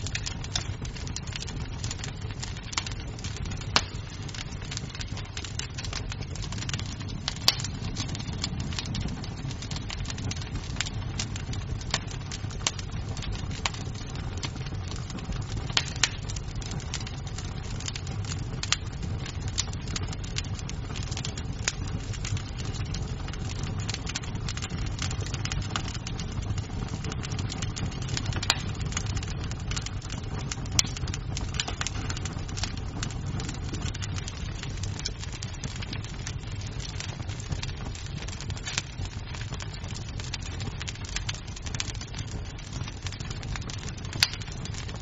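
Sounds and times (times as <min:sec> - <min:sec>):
low rumble of flames: 0:00.0 - 0:45.0
wood fire crackling and popping: 0:00.0 - 0:45.0.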